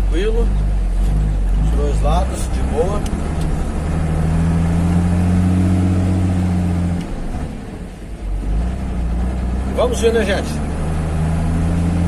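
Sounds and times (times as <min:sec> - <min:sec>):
diesel truck engine accelerating: 0:00.0 - 0:12.0.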